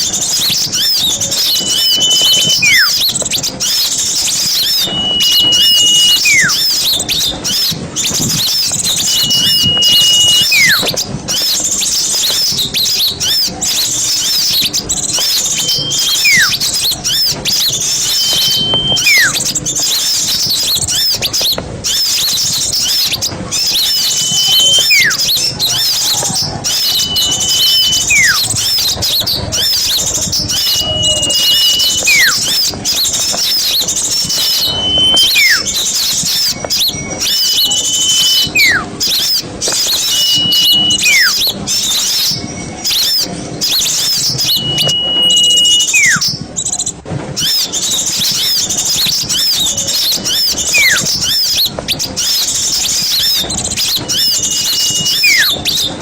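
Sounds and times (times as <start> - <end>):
bird whistle call: 0.0 - 56.0
high bird chattering: 0.0 - 56.0.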